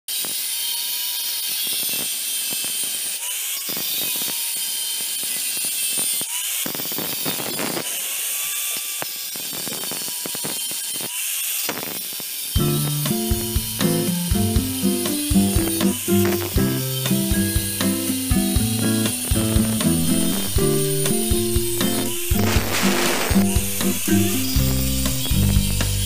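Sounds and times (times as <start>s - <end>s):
angle grinder cutting metal: 0.1s - 26.0s.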